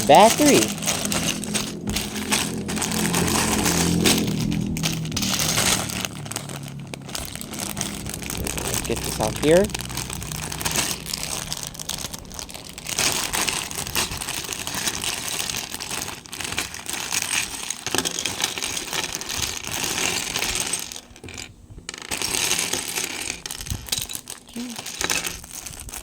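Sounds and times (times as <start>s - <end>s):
plastic bags crinkling: 0.0s - 26.0s
plastic bricks clattering: 0.0s - 26.0s.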